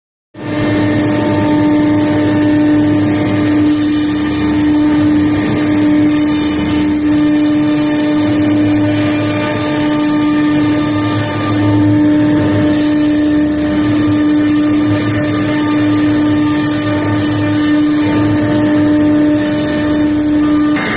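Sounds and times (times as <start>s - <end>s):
router spindle whine: 0.4s - 20.9s.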